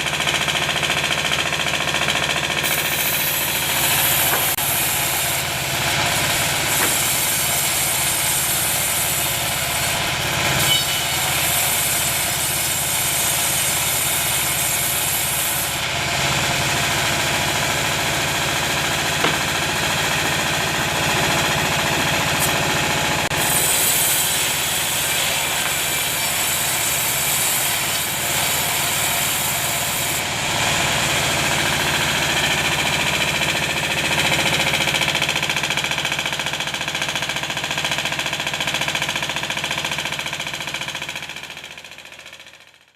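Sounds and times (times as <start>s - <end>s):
band saw sawing timber: 0.0s - 36.7s.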